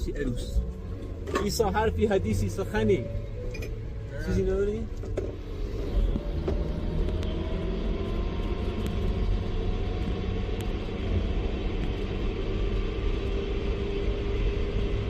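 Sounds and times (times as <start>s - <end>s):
motor vehicle engine rumbling: 0.0s - 15.0s.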